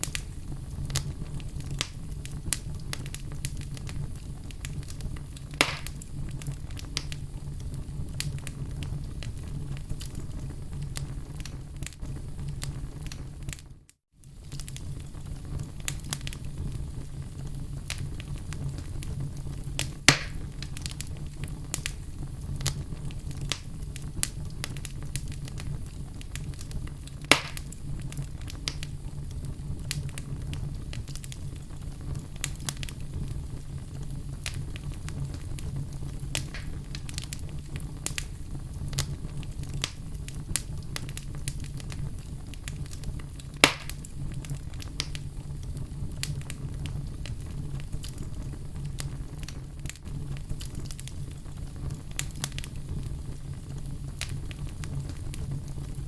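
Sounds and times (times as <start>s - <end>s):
fire popping and snapping: 0.0s - 56.0s
low rumble of flames: 0.0s - 56.0s
wood fire crackling: 0.0s - 56.0s.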